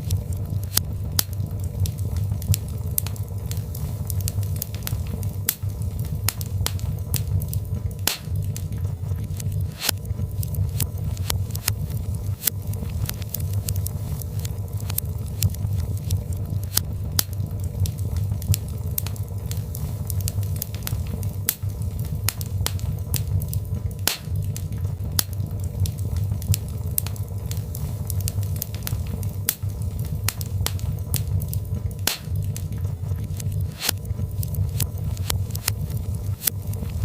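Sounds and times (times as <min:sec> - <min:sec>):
log fire crackling and popping: 0:00.0 - 0:37.0
low rumble of burning logs: 0:00.0 - 0:37.0.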